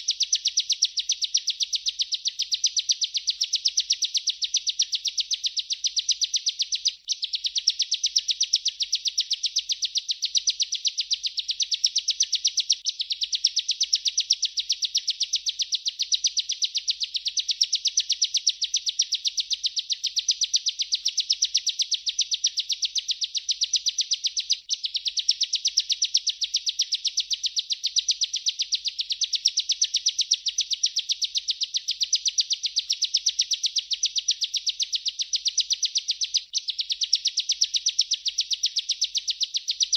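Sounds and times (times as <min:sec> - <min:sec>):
bird trilling high ticks: 0:00.0 - 0:39.9.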